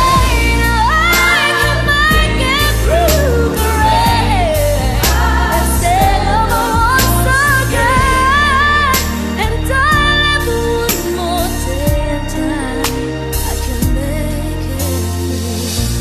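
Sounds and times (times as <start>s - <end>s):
band and bass backing: 0.0s - 16.0s
pop ballad singer: 0.0s - 16.0s.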